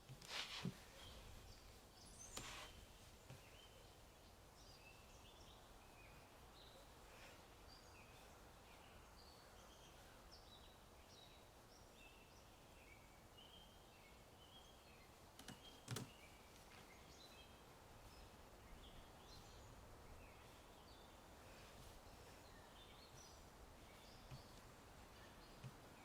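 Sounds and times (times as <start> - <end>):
faint outdoor hiss: 0.0 - 26.0
small birds chirping: 0.0 - 26.0.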